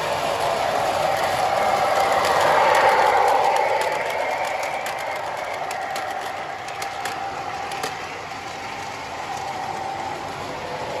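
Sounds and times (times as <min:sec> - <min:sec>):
model train motor whine: 0:00.0 - 0:11.0
wheels clicking on rails: 0:00.0 - 0:11.0.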